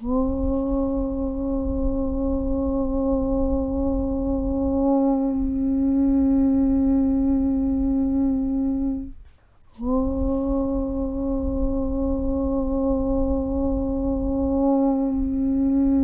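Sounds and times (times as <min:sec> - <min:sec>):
person humming low note: 0:00.0 - 0:16.0.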